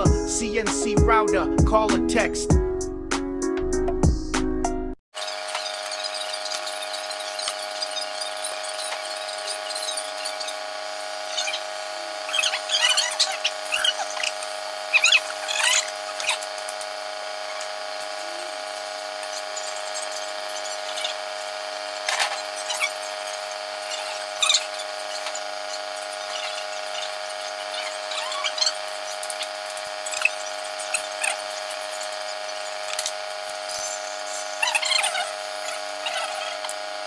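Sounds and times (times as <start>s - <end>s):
steady background hum: 5.2s - 37.0s.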